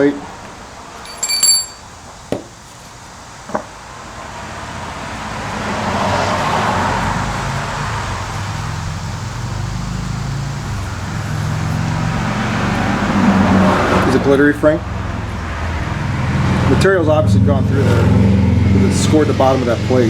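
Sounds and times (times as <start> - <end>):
motor vehicle humming: 0.3 - 20.0.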